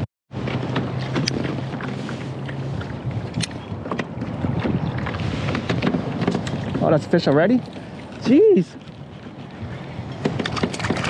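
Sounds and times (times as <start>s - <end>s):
water lapping against kayak hull: 0.3s - 11.0s
wind buffeting microphone: 0.3s - 11.0s.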